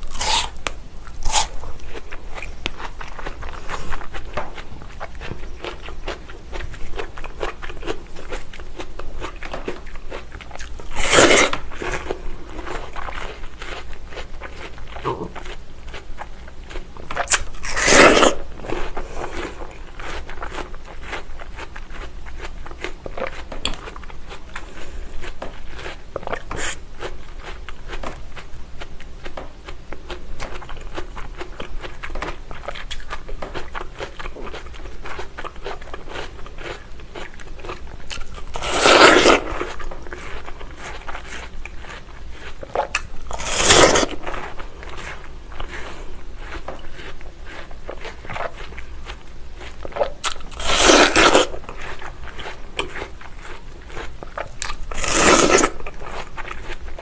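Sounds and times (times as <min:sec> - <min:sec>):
crunching bites of watermelon: 0:00.0 - 0:16.0, 0:16.6 - 0:24.0, 0:31.5 - 0:57.0
wet chewing: 0:00.0 - 0:57.0.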